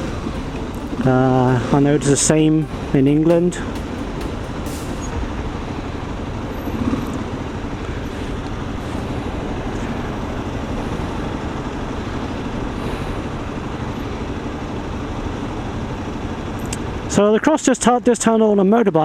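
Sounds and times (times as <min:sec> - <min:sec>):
motorcycle engine running: 0:00.0 - 0:17.1
road noise: 0:00.0 - 0:19.0
wind: 0:00.0 - 0:19.0.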